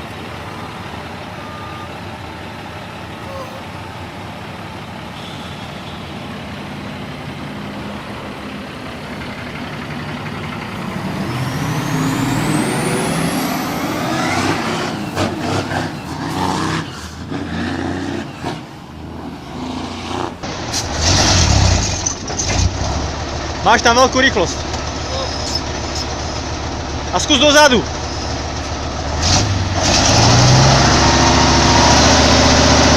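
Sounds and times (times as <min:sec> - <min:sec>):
heavy truck engine: 0:00.0 - 0:32.9.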